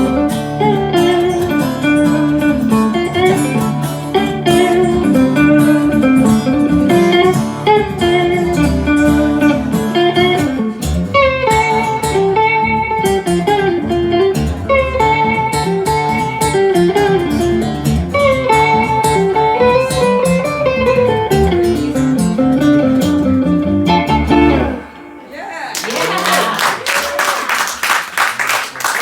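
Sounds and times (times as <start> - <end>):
guitar melody lines: 0.0 - 25.4
live band playing: 0.0 - 25.4.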